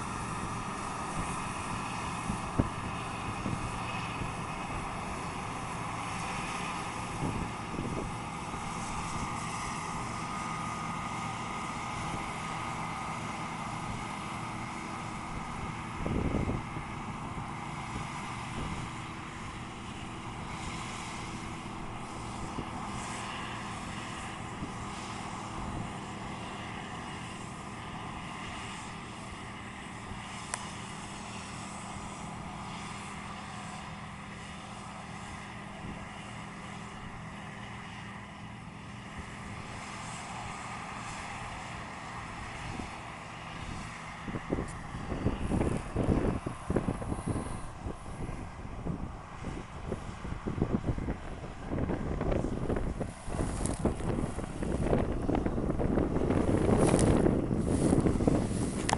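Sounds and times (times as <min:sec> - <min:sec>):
farm machinery engine droning: 0:00.0 - 0:58.9.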